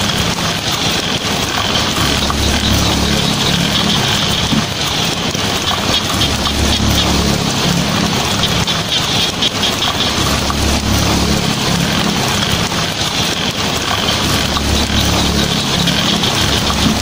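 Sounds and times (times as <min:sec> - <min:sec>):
heavy rain on a tin roof: 0:00.0 - 0:17.0
low rumble: 0:01.8 - 0:17.0.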